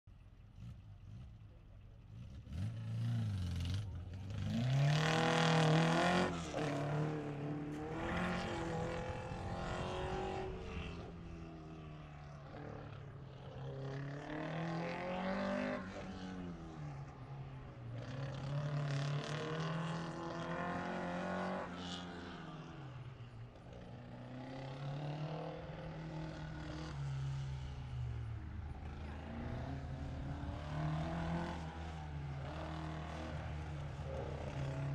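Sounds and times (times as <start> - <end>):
car engine accelerating: 0.4 - 34.9.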